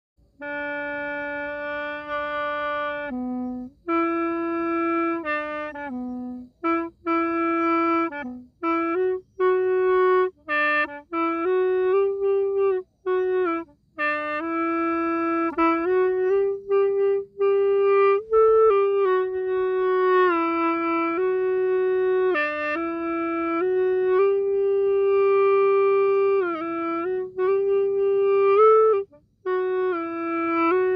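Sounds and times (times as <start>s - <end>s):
bamboo flute melody: 0.4s - 30.9s.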